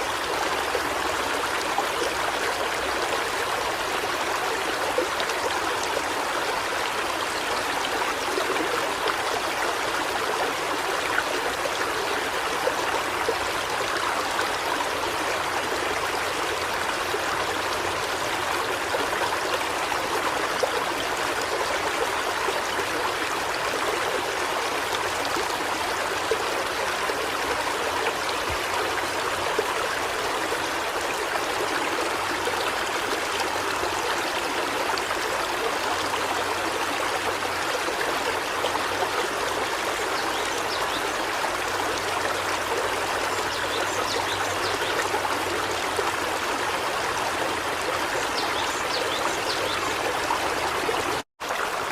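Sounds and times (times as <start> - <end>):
small stream trickling: 0.0 - 51.9.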